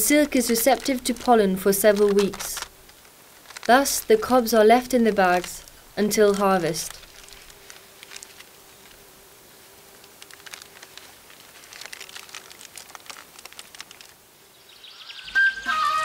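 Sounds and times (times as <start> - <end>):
paper bag crinkling: 0.0 - 9.1, 9.9 - 14.2
faint steady hum: 0.0 - 16.0.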